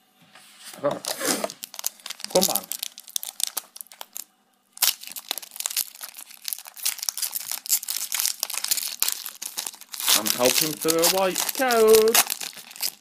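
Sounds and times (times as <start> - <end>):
foil wrapper tearing and crinkling: 1.0 - 4.2, 4.8 - 13.0.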